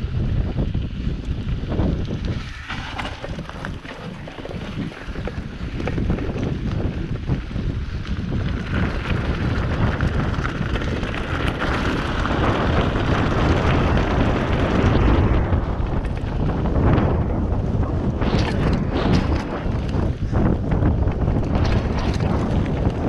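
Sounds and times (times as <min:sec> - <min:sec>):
bike tyre rumble: 0:00.0 - 0:23.0
wind buffeting microphone: 0:00.0 - 0:23.0
bike rattles and knocks: 0:01.3 - 0:23.0.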